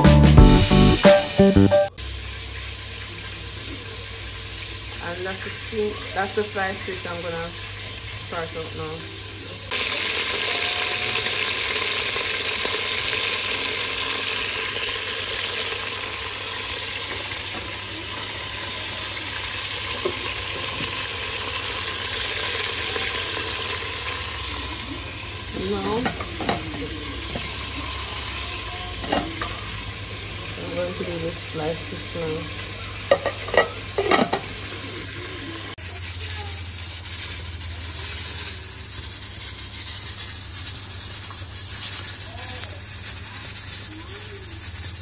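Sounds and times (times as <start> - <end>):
food sizzling in hot oil: 1.9 - 45.0.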